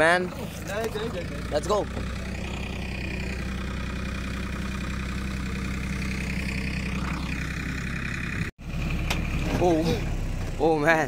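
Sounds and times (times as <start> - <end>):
boat engine running: 0.0 - 10.3.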